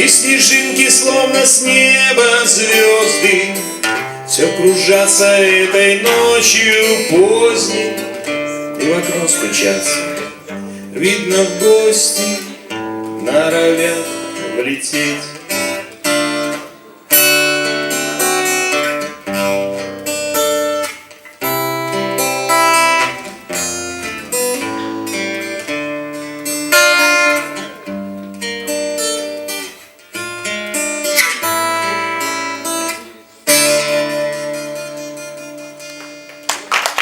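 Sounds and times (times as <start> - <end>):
acoustic guitar chords: 0.0 - 36.6.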